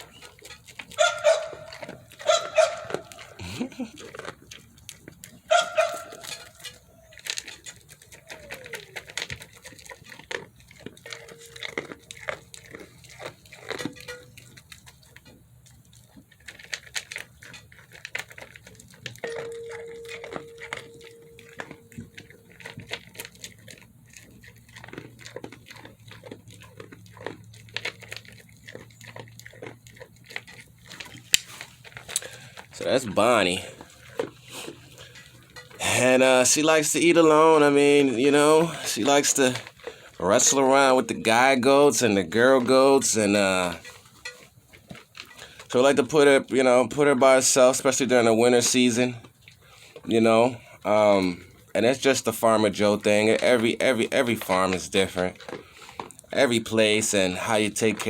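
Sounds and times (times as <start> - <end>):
goat crunching feed: 0.0 - 58.0.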